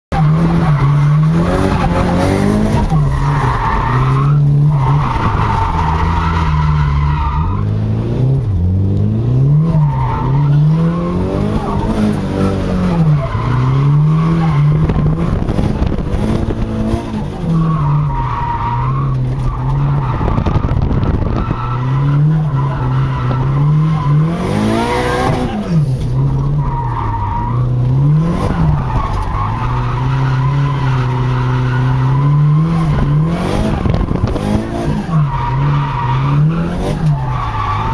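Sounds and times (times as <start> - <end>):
car engine revving hard: 0.2 - 37.9.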